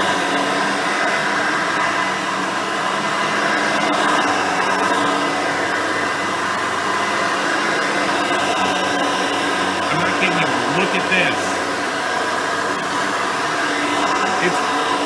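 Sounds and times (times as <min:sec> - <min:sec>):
upright vacuum running: 0:00.0 - 0:15.0.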